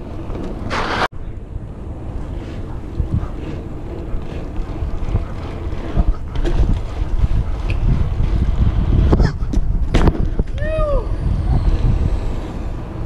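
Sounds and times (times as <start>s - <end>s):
wind buffeting microphone: 1.2s - 13.0s.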